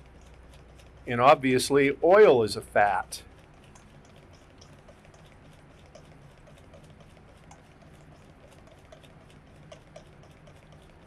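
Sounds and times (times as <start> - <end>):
wire whisk ticking against bowl: 0.0 - 2.4, 3.1 - 11.0
soft wet patter: 0.0 - 11.0.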